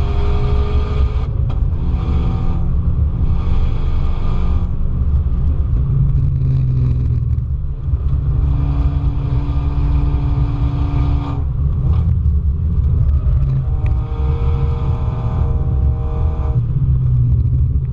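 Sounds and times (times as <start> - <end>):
car engine running hard: 0.0 - 17.9
road and wind rumble: 0.0 - 17.9.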